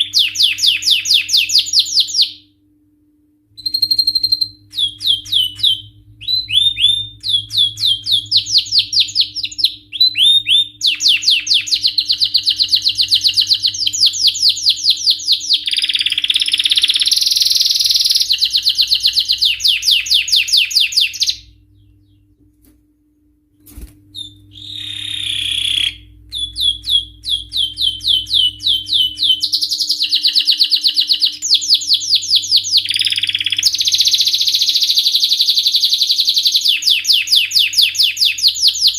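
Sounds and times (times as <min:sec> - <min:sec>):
canary singing trills: 0:00.0 - 0:02.5, 0:03.6 - 0:22.3, 0:24.2 - 0:38.9.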